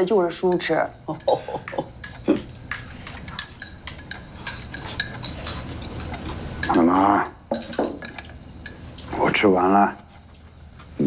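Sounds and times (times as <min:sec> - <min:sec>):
chopsticks clinking on bowls: 0:00.4 - 0:10.9.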